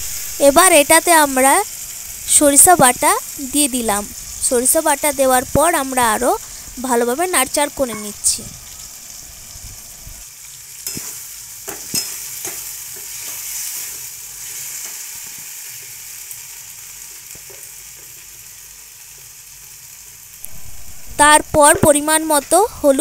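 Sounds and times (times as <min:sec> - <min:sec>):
potatoes sizzling in oil: 0:00.0 - 0:23.0.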